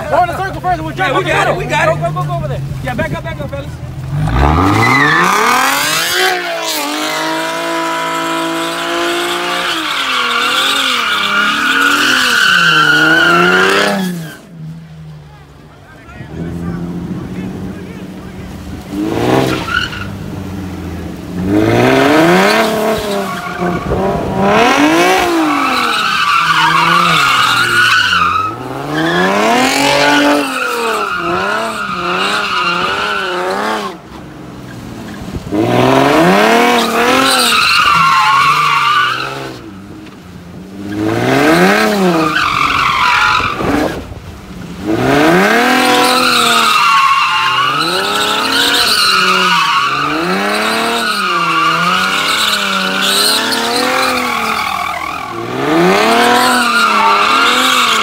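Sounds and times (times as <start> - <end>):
car engine revving: 0.0 - 58.0
tires squealing: 0.0 - 58.0.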